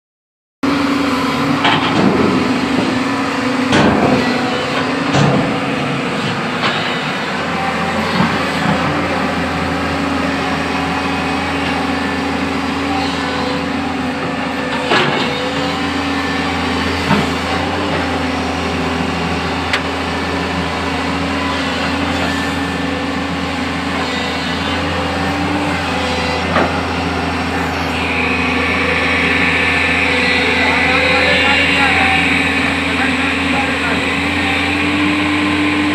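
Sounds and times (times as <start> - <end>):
diesel engine running: 0.6 - 35.9.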